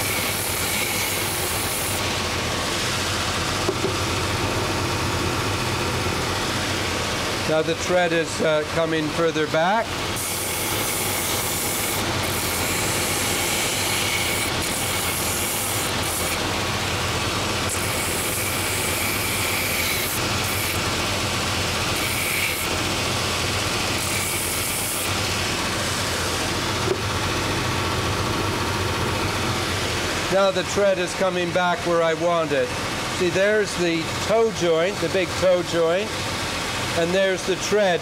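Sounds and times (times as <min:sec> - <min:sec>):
belt sander running: 0:00.0 - 0:38.0.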